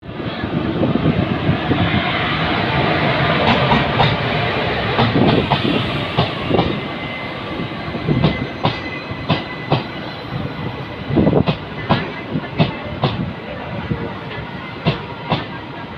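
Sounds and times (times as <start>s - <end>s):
train coaches rumbling: 0.0s - 15.9s.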